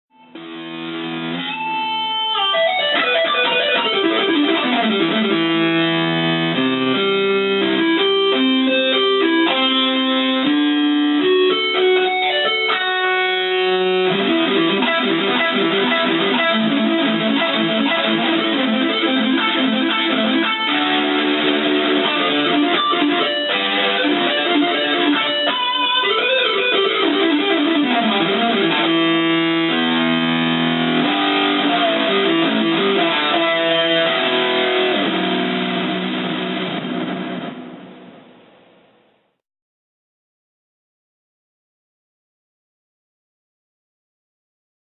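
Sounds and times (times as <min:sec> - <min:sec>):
electric guitar playing rock: 0:00.1 - 0:38.5.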